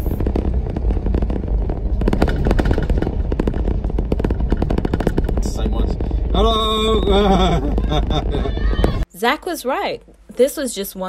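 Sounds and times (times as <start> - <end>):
crackling and rattling: 0.0 - 9.0.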